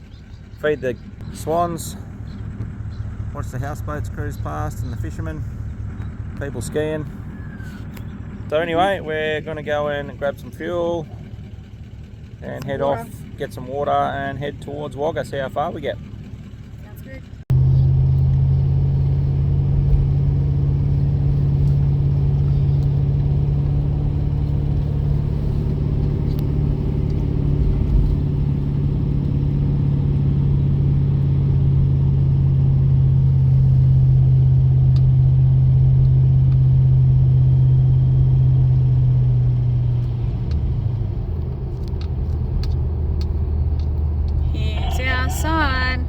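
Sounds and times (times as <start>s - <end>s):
vehicle engine droning: 0.0s - 46.0s.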